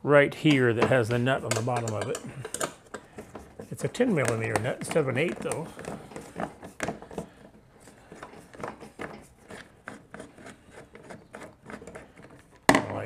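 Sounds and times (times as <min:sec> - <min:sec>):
screwdriver clicking and scraping: 0:00.4 - 0:12.7.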